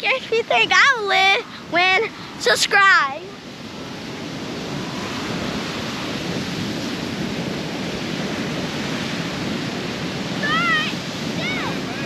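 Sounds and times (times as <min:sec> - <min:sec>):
surf breaking on shore: 0:00.0 - 0:12.0
wind: 0:00.0 - 0:12.0.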